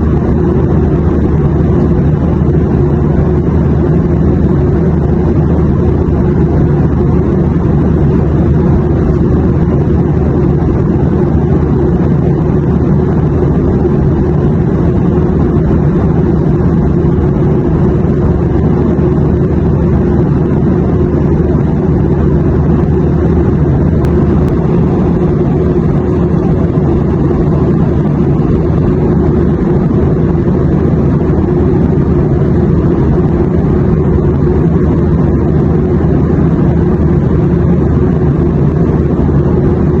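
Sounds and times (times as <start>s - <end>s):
airflow rumble: 0.0s - 40.0s
airliner cabin engine drone: 0.0s - 40.0s.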